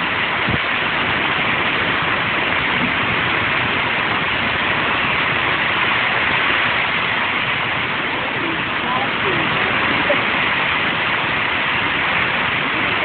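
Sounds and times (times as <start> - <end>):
heavy rain: 0.0 - 13.0
strong wind rushing: 0.0 - 13.0.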